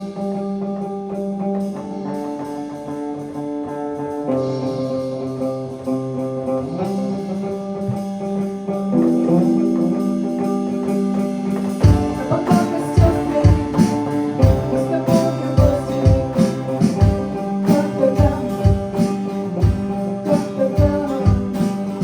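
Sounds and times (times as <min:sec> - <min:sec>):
guitar ringing chords: 0:00.0 - 0:22.0.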